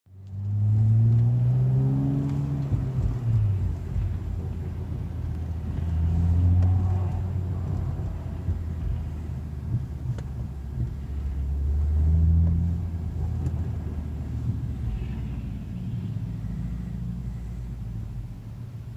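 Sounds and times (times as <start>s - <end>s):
car low drone: 0.1s - 18.9s.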